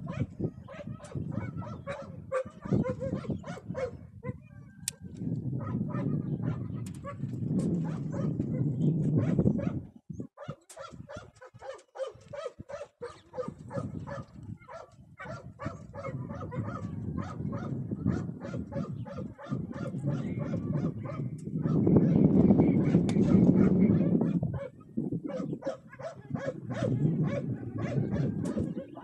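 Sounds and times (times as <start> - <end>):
dog barking and yipping: 0.0 - 4.6, 5.6 - 7.2, 7.8 - 22.2, 22.8 - 29.0
wind rumbling on microphone: 0.0 - 29.0.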